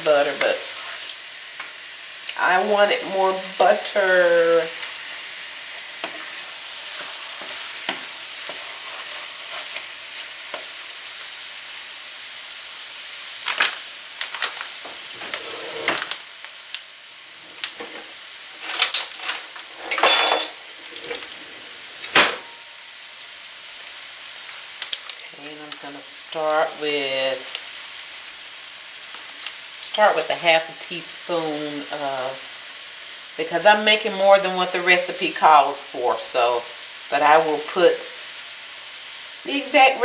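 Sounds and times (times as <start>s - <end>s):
butter sizzling in a pot: 0.0s - 40.0s.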